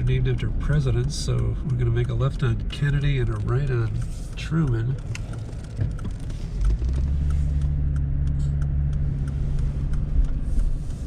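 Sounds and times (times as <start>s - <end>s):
car engine and road noise: 0.0s - 11.0s
light ticks: 0.0s - 11.0s.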